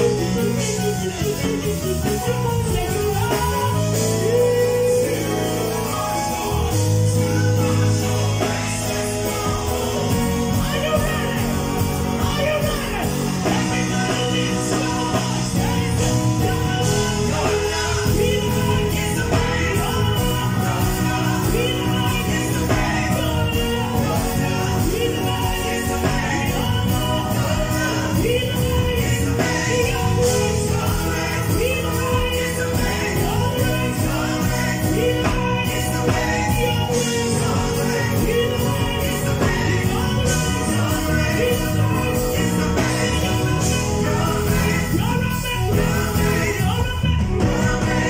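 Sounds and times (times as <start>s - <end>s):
drum kit: 0.0s - 48.0s
electric bass guitar: 0.0s - 48.0s
electric guitar: 0.0s - 48.0s
keyboard: 0.0s - 48.0s
person singing: 0.0s - 48.0s.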